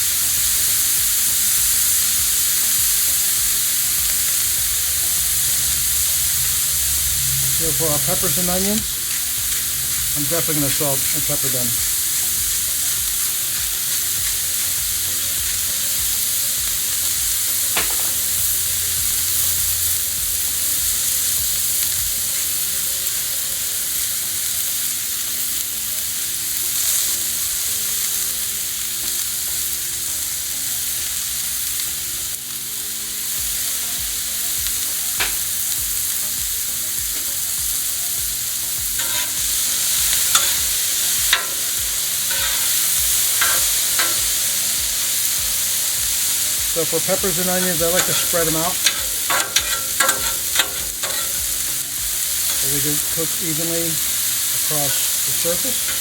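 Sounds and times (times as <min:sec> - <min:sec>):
food sizzling on a griddle: 0:00.0 - 0:56.0.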